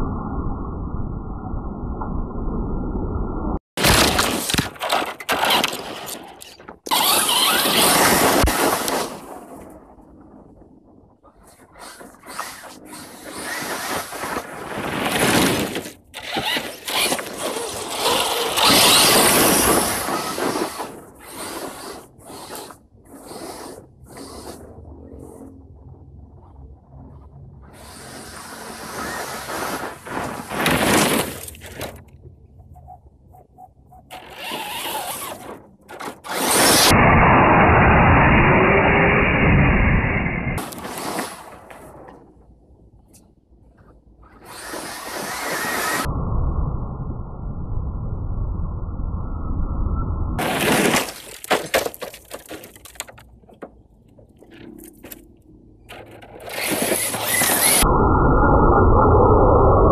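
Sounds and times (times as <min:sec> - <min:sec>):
rc truck driving on dirt: 0:03.8 - 0:46.1, 0:50.4 - 0:58.1.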